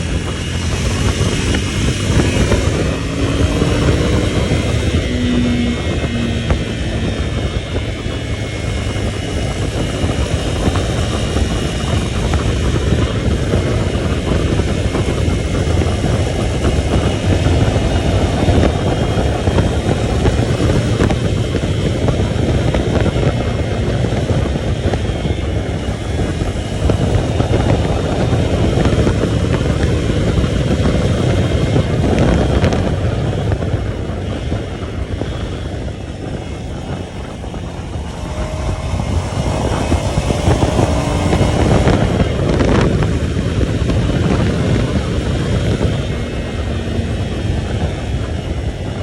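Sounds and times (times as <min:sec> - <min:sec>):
ground noise: 0:00.0 - 0:49.0
motorcycle engine rumble: 0:00.0 - 0:49.0
wind noise: 0:00.0 - 0:49.0.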